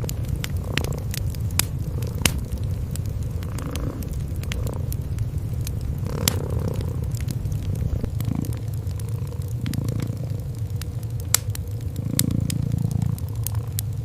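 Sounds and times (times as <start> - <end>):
cats purring: 0.0 - 14.0
wood fire crackling and popping: 0.0 - 14.0.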